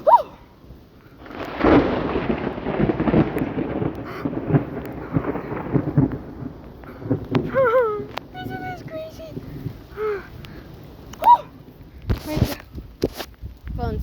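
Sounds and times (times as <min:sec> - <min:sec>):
rain falling: 0:00.0 - 0:14.0
thunder rumbling: 0:00.0 - 0:14.0.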